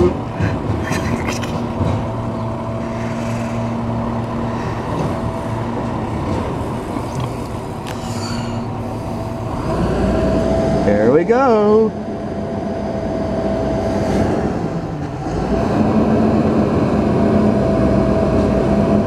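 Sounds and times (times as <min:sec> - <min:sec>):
diesel truck engine humming: 0:00.0 - 0:19.0.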